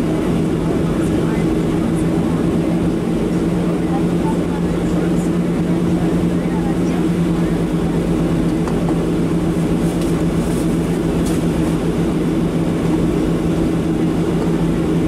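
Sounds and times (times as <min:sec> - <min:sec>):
airplane engines idling: 0:00.0 - 0:15.0.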